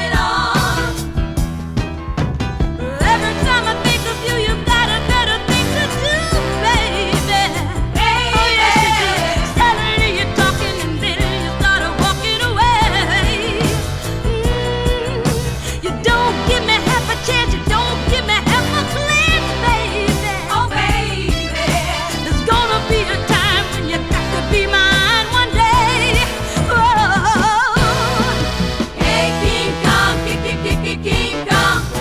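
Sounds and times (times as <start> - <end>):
pop song with singer: 0.0 - 1.6, 2.7 - 32.0
bass: 0.0 - 32.0
steady drum beat: 0.0 - 32.0.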